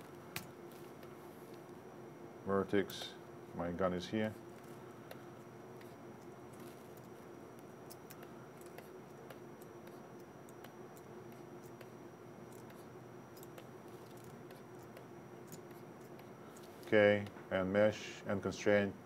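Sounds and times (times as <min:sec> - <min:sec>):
steady room hum: 0:00.0 - 0:19.0.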